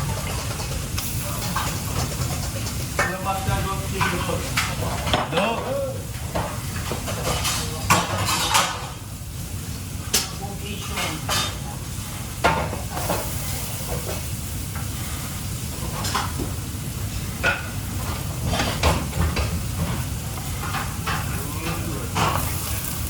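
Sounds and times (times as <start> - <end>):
food frying in a pan: 0.0 - 23.0.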